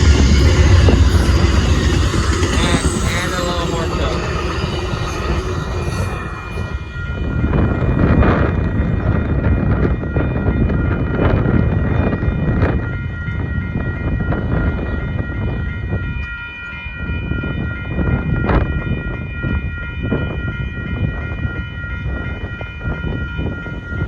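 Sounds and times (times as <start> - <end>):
high-pitched ringing tone: 0.0 - 24.0
train wheels rumbling on rail: 0.0 - 24.0.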